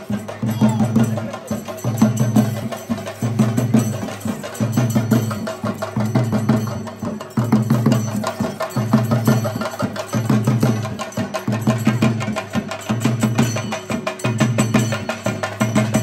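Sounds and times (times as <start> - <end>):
drums played in fast strokes: 0.0 - 16.0.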